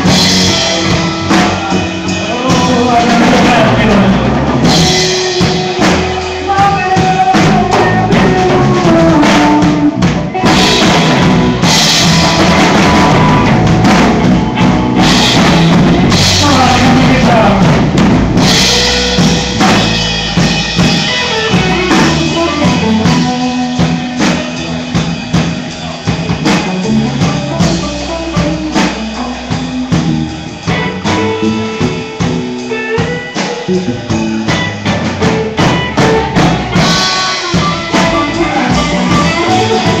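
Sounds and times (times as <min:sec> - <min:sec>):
drum kit: 0:00.0 - 0:40.0
guitar: 0:00.0 - 0:40.0
live band playing: 0:00.0 - 0:40.0.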